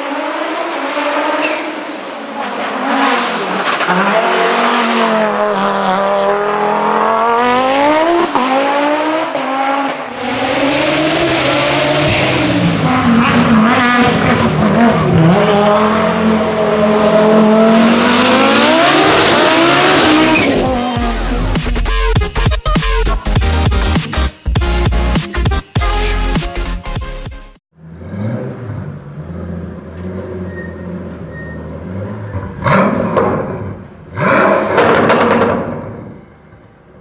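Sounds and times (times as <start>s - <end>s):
car engine at high revs: 0.0s - 21.7s, 27.8s - 35.9s.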